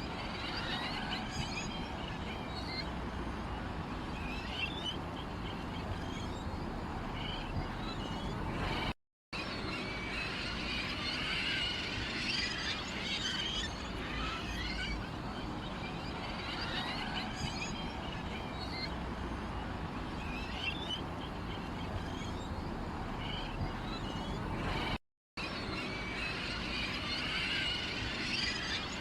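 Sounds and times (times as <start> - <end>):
small songbirds chirping: 0.0 - 10.7, 12.2 - 25.0.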